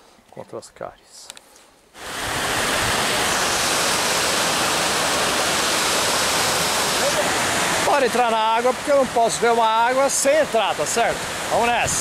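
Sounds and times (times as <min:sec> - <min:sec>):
waterfall rushing water: 0:02.0 - 0:12.0.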